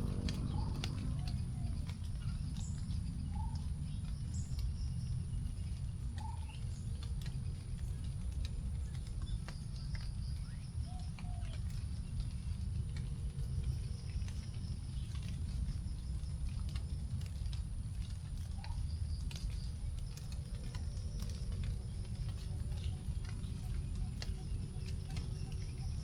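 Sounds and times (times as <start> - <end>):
low background rumble: 0.0 - 26.0
raindrops dripping from leaves: 0.0 - 26.0.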